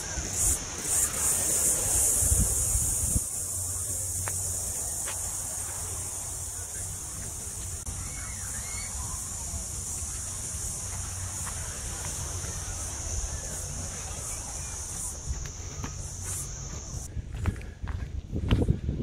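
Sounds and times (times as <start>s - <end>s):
cicada chorus drone: 0.0s - 17.1s
low wind or handling rumble: 0.0s - 19.0s.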